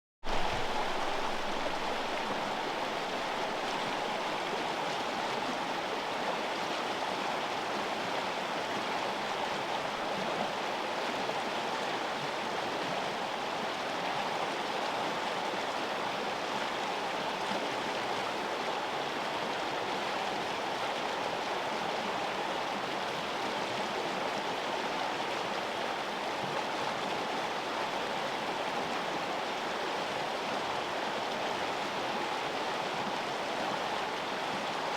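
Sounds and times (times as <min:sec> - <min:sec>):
river water flowing: 0:00.2 - 0:34.9.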